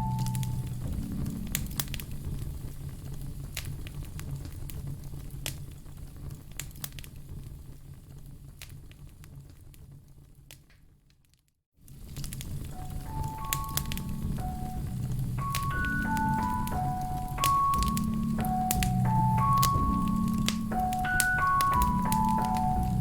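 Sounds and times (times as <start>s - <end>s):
wood fire crackling: 0.0s - 11.1s, 11.8s - 23.0s.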